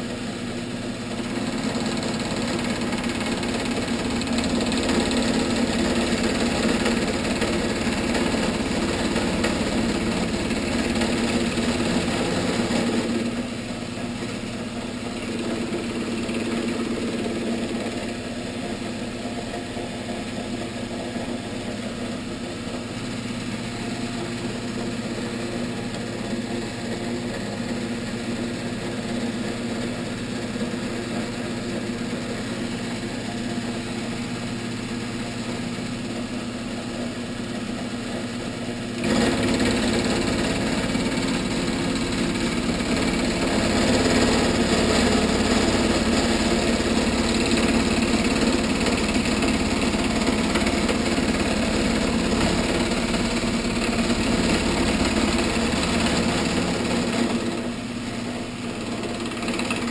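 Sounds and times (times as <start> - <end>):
milling machine cutting steel: 1.2 - 37.7, 38.9 - 59.9.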